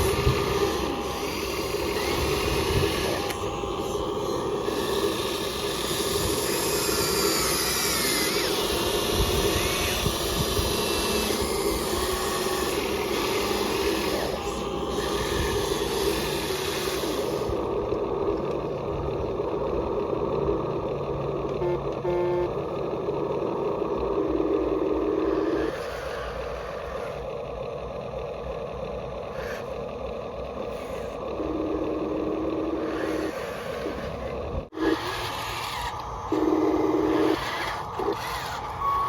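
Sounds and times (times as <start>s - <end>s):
electric motors whirring and whining: 0.0s - 39.0s.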